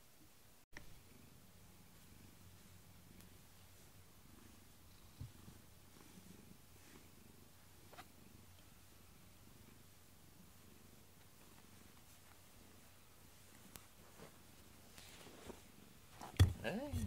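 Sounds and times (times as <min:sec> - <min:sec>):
cat purring: 0:00.8 - 0:17.0.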